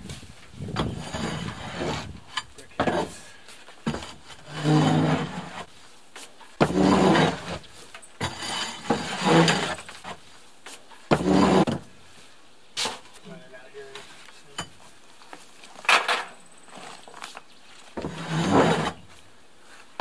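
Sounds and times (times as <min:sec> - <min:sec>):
tools scraping against wood: 0:00.0 - 0:11.9, 0:12.8 - 0:19.2.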